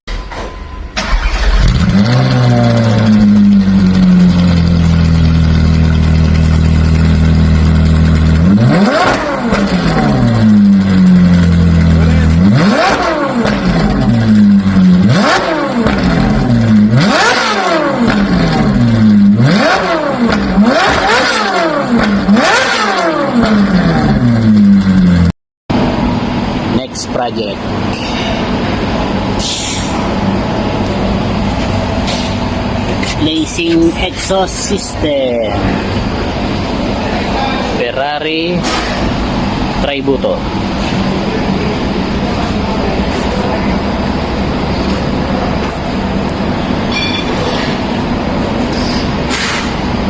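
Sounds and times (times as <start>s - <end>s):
sports car engine revving: 1.1s - 26.7s, 29.9s - 37.9s, 38.6s - 50.0s.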